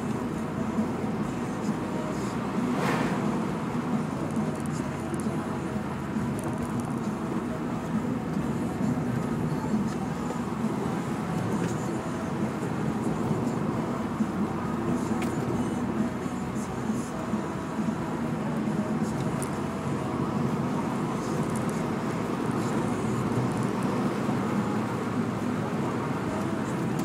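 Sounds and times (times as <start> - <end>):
car engine drone under load: 0.0 - 27.0
tyre and road noise: 0.0 - 27.0.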